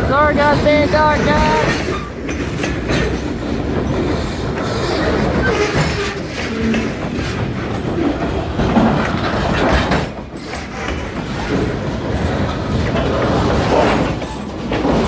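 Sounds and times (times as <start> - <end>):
train knocks: 0.0 - 15.0
train wheels rumbling on rails: 0.0 - 15.0.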